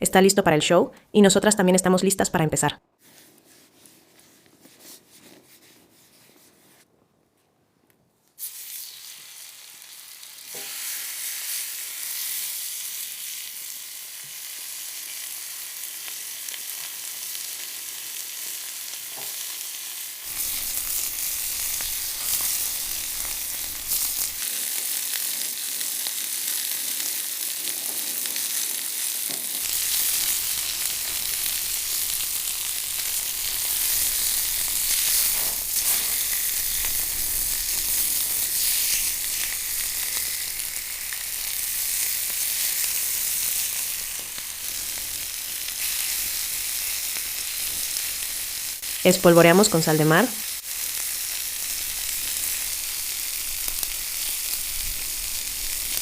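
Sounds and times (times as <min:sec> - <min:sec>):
sizzling on a hot grill: 0:08.4 - 0:56.0.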